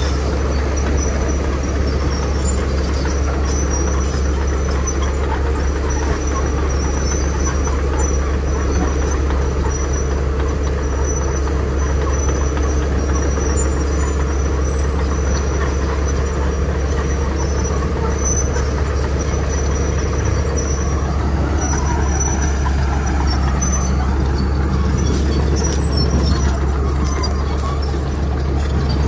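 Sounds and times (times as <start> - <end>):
bulldozer diesel engine droning: 0.0 - 29.0.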